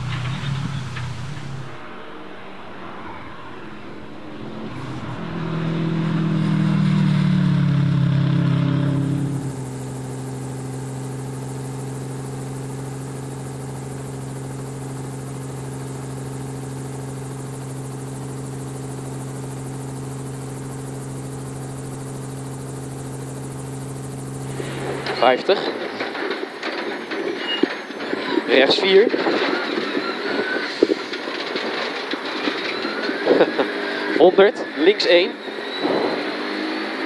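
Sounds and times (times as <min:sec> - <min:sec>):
drone motors whirring: 0:00.0 - 0:37.0
rally car engine accelerating: 0:00.0 - 0:37.0.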